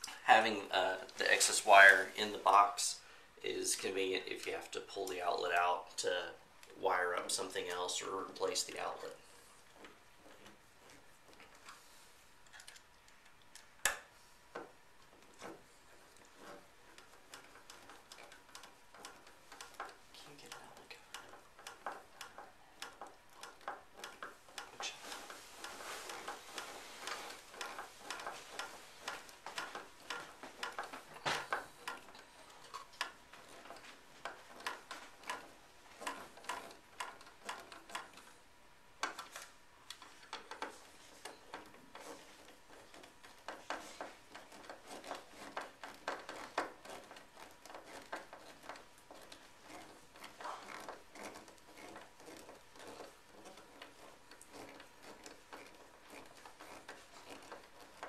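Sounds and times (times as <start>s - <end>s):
screwdriver metal clicks and scrapes: 9.7s - 38.4s, 39.0s - 58.0s.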